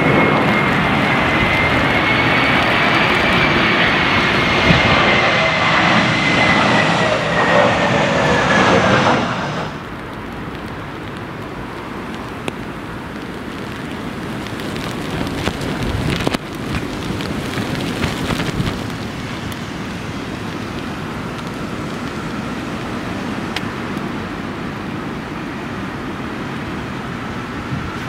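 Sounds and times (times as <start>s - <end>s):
faint jet engine whine: 0.0s - 28.0s
wind and rain buffeting microphone: 0.0s - 28.0s.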